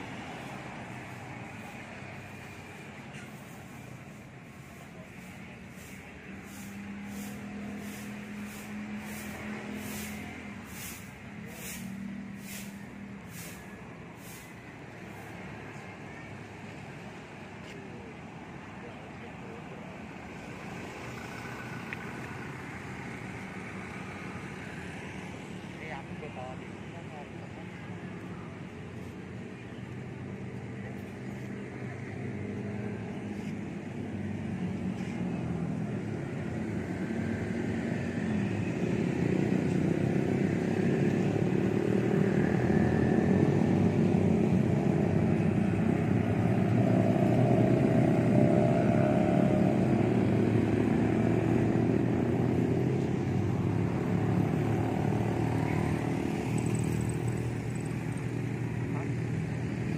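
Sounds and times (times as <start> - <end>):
motorcycles and cars passing: 0.0 - 59.9.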